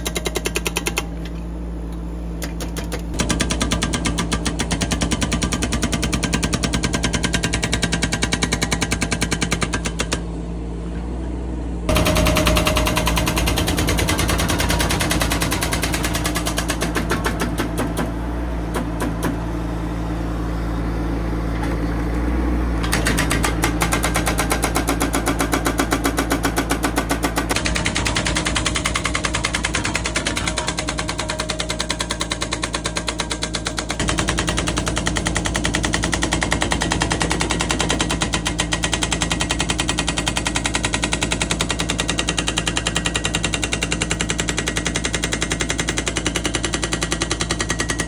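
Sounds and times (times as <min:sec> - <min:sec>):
hydraulic breaker hammering rock: 0:00.0 - 0:01.4, 0:02.4 - 0:10.3, 0:11.9 - 0:19.4, 0:22.8 - 0:48.0
excavator engine running: 0:00.0 - 0:48.0.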